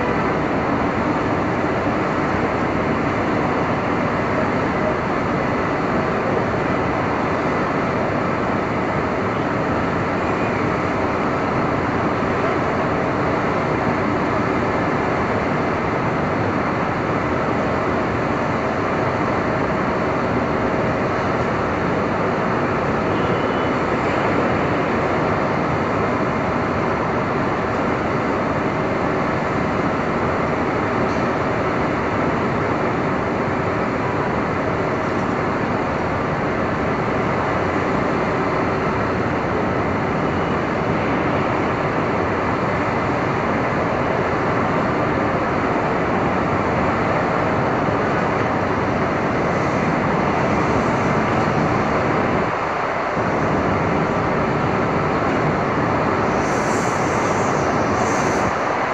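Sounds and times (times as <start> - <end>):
traffic noise: 0.0 - 58.9.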